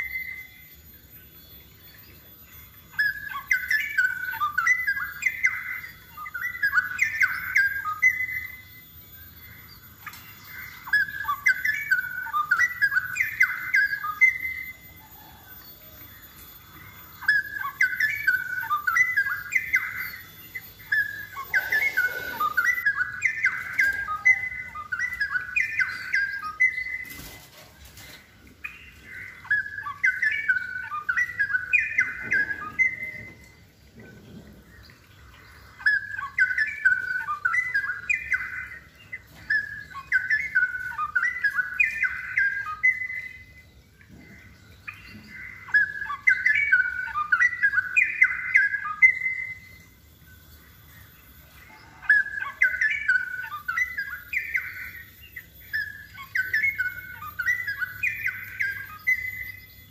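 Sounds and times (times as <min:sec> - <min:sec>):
bird singing warbled phrases: 0:00.0 - 0:59.9.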